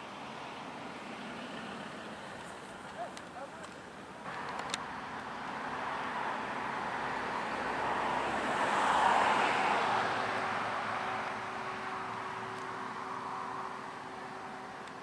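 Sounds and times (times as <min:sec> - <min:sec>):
combine harvester engine and threshing: 0:00.0 - 0:15.0.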